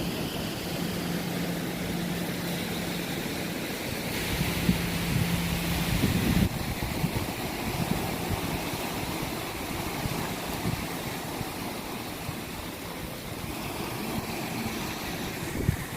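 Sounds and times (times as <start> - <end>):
faint low motor hum: 0.0 - 15.9
sea water rushing: 0.0 - 15.9.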